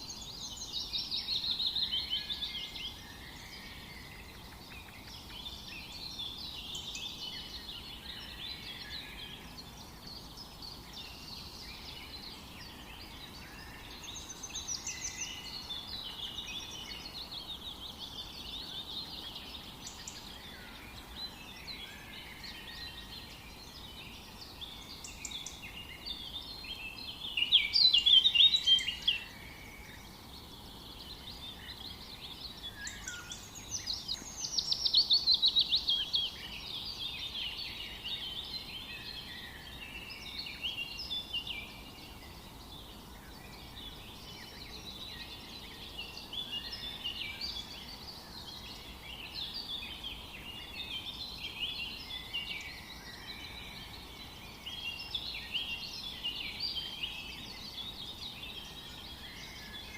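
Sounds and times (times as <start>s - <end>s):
faint background hiss: 0.0s - 59.9s
songbirds chirping and trilling: 0.0s - 59.9s.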